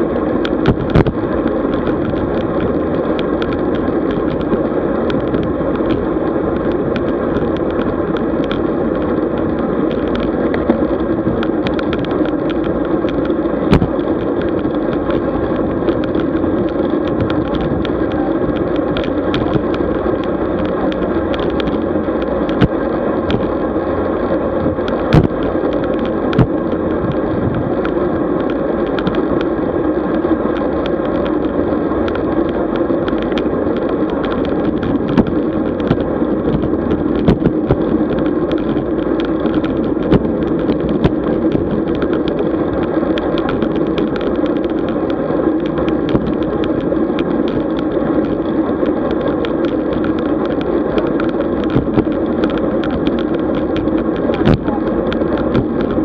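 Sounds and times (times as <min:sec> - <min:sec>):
bike knocking and rattling: 0:00.0 - 0:56.0
tyres and wind rumble: 0:00.0 - 0:56.0.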